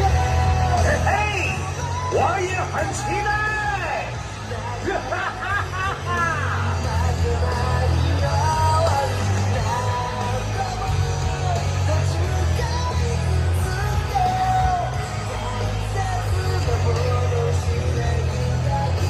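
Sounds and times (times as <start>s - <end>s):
sung melody over heavy bass: 0.0s - 19.0s.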